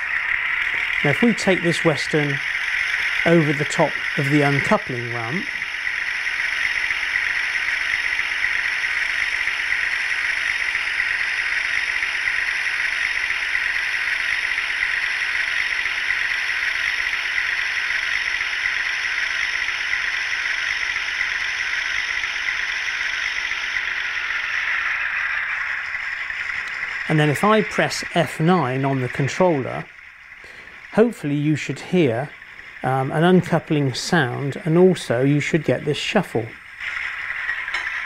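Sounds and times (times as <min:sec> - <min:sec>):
low hum: 0:00.0 - 0:38.0
model train diesel engine sound: 0:00.0 - 0:38.0.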